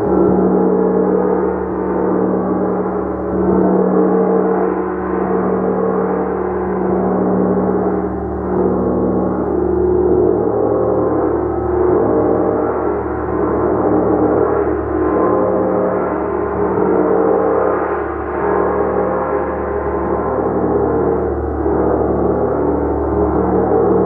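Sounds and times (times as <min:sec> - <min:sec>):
large gong shimmering: 0:00.0 - 0:24.0.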